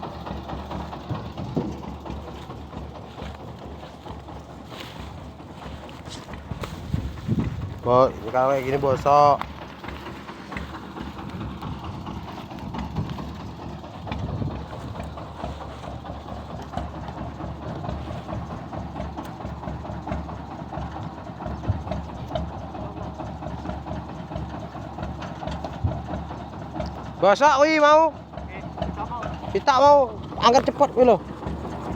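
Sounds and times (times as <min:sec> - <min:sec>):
vehicle engine idling: 0:00.0 - 0:31.9.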